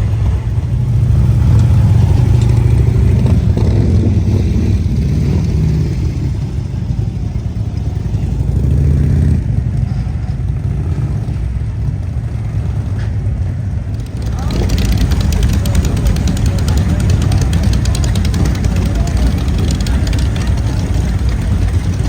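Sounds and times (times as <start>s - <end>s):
motorcycle engine rumbling: 0.0s - 22.0s.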